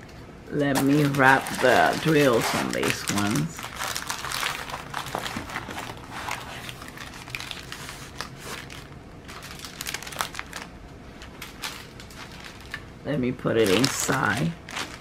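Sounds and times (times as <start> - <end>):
plastic packets crinkling: 0.7 - 15.0.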